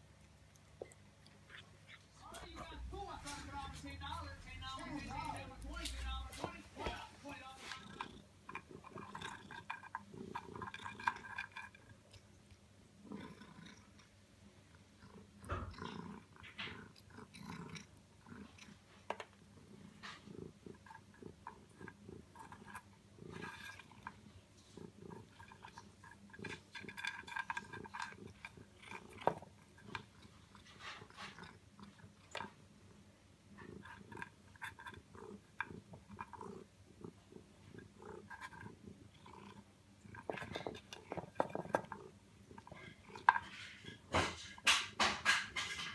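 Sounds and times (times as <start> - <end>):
cat chewing food: 0.0 - 45.9.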